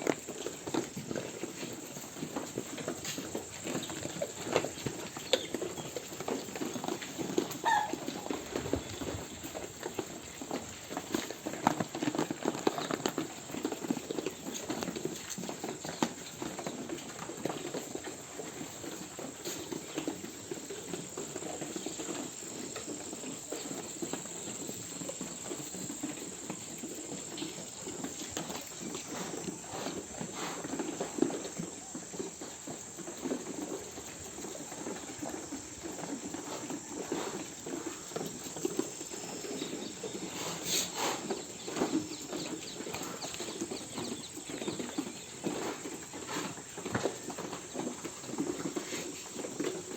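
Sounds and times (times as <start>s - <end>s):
sheep hooves pattering: 0.0s - 49.9s.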